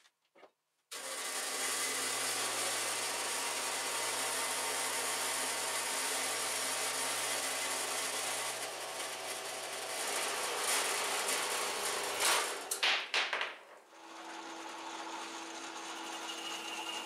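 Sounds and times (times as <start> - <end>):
bandsaw cutting metal bar: 0.9 - 12.9, 13.9 - 17.0.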